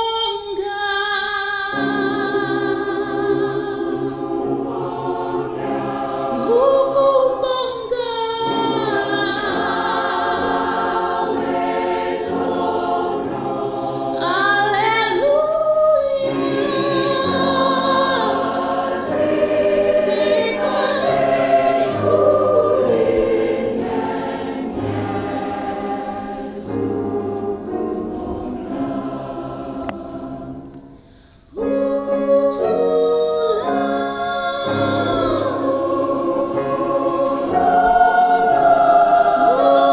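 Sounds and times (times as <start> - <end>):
choir singing in parts: 0.6 - 39.9.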